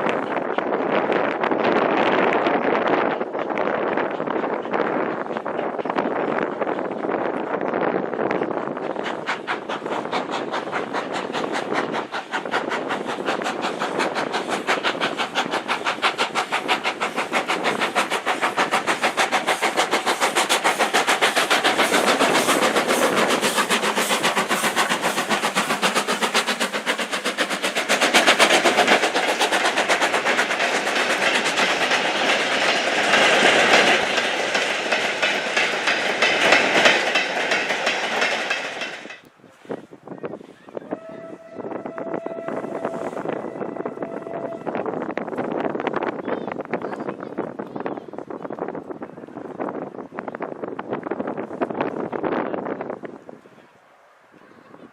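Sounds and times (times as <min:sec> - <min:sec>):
steam train running: 0:00.0 - 0:54.9.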